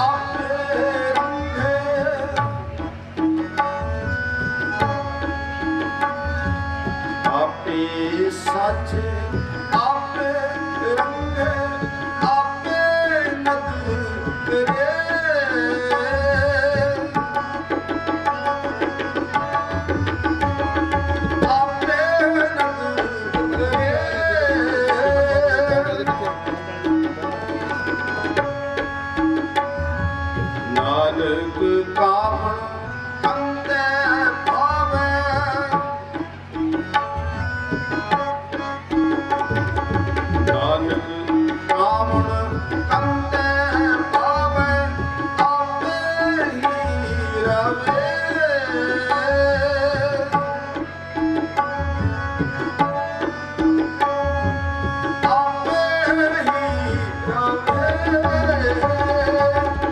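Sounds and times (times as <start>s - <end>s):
man singing: 0.0s - 37.0s, 37.8s - 59.9s
harmonium: 0.0s - 59.9s
tabla drumming: 0.0s - 59.9s.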